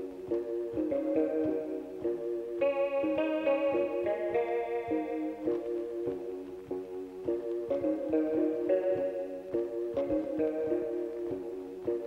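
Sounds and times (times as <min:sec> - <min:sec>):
electronic keyboard music: 0:00.0 - 0:12.0.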